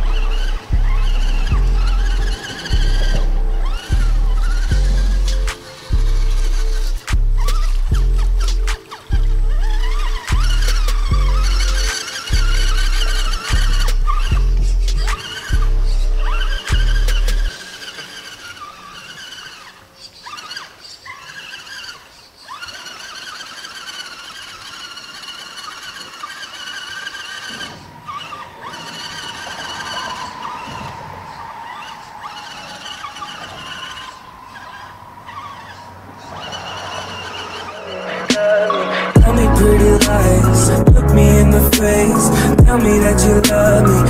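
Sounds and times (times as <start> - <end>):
electric motor and gears whining: 0.0 - 44.0.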